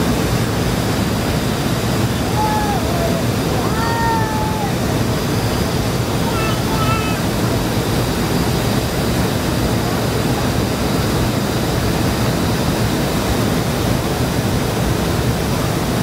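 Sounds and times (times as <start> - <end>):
jet engine cabin noise: 0.0 - 16.0.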